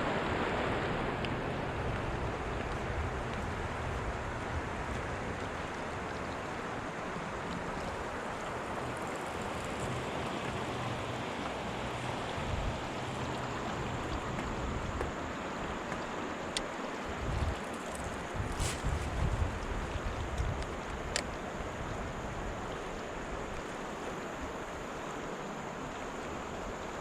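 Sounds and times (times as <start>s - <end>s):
wind rumbling on microphone: 0.0s - 16.1s, 16.9s - 24.9s
river water rushing: 0.0s - 27.0s.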